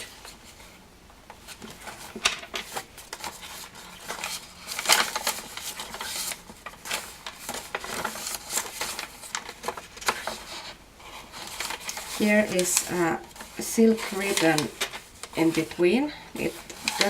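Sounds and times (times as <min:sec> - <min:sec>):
paper pages rustling: 0:00.0 - 0:17.0.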